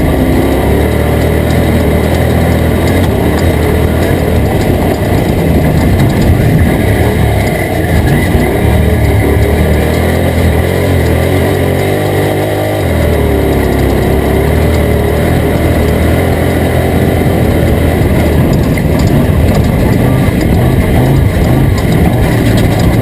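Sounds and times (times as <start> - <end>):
race truck engine running hard: 0.0 - 23.0.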